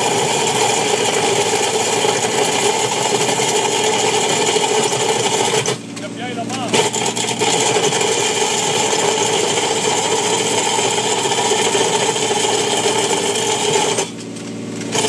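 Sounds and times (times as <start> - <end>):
cutting disk grinding asphalt: 0.0 - 15.0.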